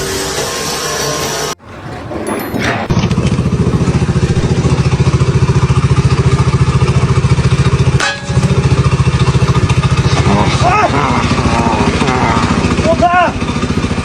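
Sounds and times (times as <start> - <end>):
small engine chugging: 1.6 - 14.0.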